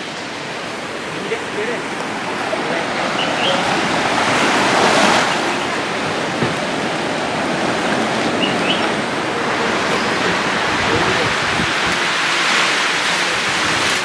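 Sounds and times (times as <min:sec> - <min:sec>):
small waves washing onto beach: 0:00.0 - 0:14.0.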